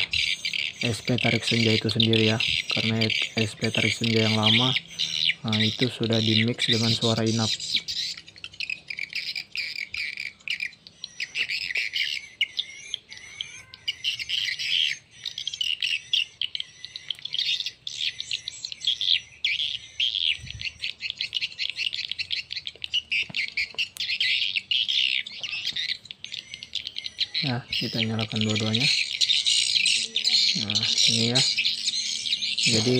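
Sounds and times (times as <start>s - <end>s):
swiftlet chirping and twittering: 0.0s - 32.9s.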